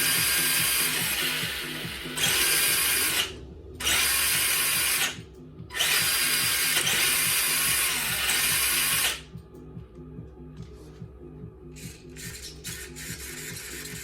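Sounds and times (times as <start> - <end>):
toy car electric motor whining: 0.0 - 9.2, 11.8 - 14.0.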